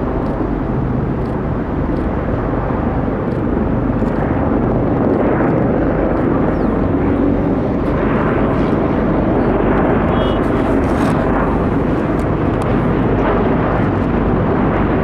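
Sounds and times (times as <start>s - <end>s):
helicopters flying past: 0.0s - 15.0s.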